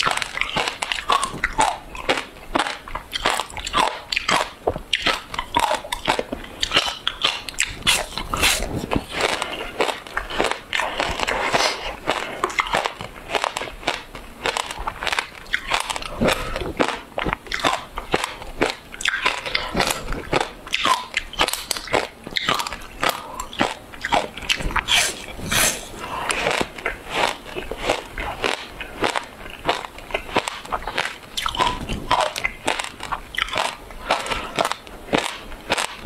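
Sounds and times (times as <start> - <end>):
crunching frozen ice: 0.0 - 36.0.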